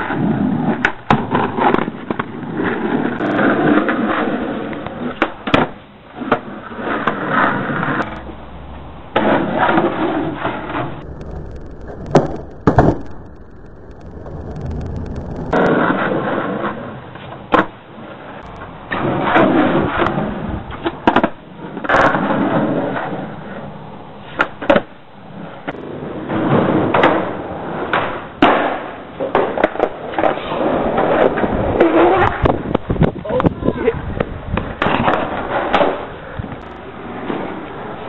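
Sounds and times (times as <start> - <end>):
skateboard clacking on ground: 0.0 - 8.4, 9.1 - 38.0
skateboard wheels rolling on concrete: 0.0 - 38.0.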